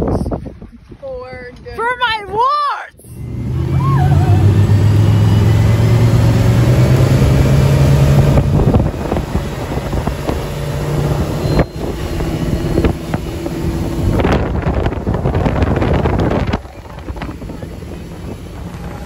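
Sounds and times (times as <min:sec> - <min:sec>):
wind buffeting microphone: 0:00.0 - 0:19.0
boat engine drone: 0:03.0 - 0:19.0
water rushing: 0:03.2 - 0:19.0.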